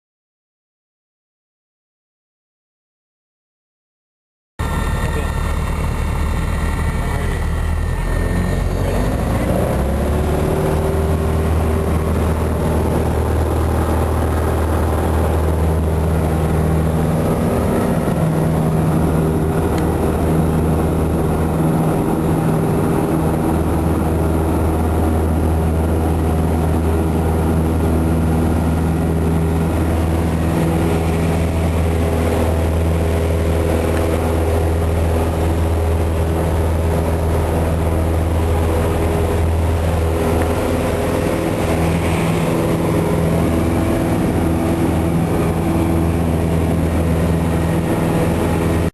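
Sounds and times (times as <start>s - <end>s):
propeller plane engine at full power: 4.6s - 48.9s.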